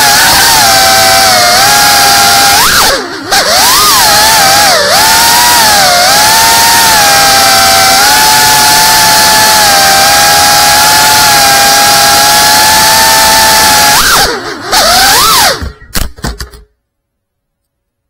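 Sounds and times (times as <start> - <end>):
drone motors whining: 0.0 - 16.7.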